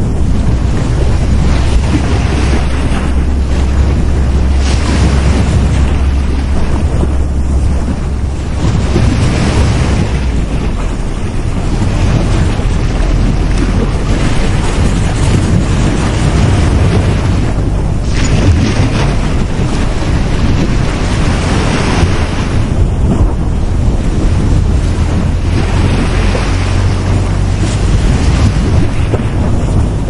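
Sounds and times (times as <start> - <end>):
ocean waves breaking on beach: 0.0 - 30.0
wind buffeting microphone: 0.0 - 30.0.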